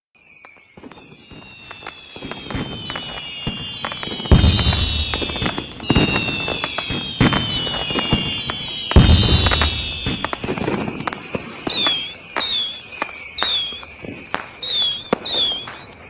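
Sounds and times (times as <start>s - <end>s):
firework whistles sliding down: 0.2s - 16.0s
fireworks crackling: 0.2s - 16.0s
deep firework booms: 0.8s - 16.0s.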